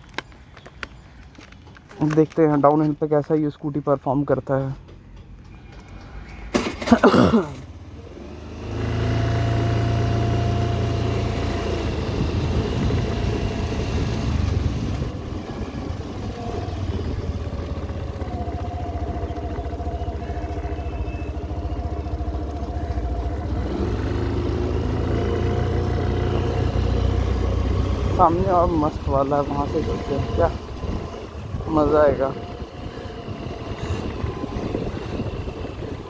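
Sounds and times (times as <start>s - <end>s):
scooter engine: 4.9s - 36.0s.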